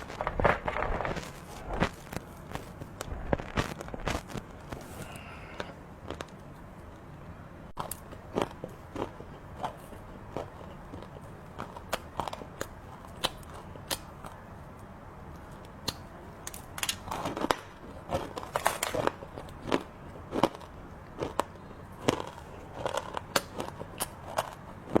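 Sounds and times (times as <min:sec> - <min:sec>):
crunchy snack chewing: 0:00.0 - 0:07.0, 0:07.8 - 0:14.4, 0:16.5 - 0:25.0.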